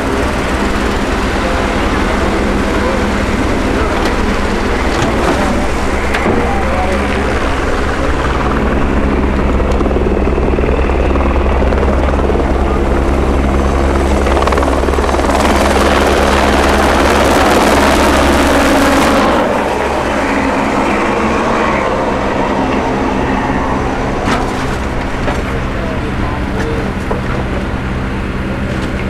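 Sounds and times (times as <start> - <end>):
helicopter rotor and turbine: 0.0 - 29.0
steady low hum: 0.0 - 29.0.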